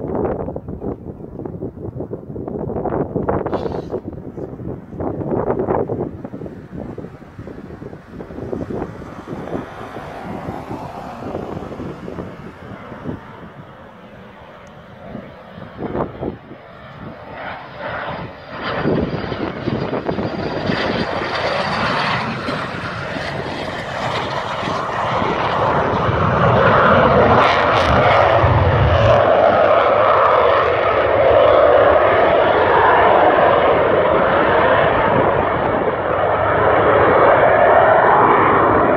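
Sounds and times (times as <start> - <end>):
jet engine high whine: 0.0 - 38.9
jet engine roar: 0.0 - 38.9.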